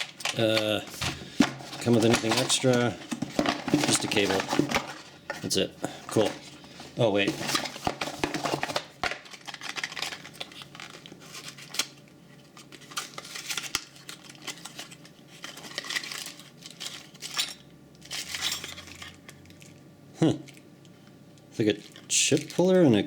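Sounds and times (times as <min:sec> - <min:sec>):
plastic packaging crinkling: 0:00.0 - 0:19.8, 0:21.6 - 0:23.0.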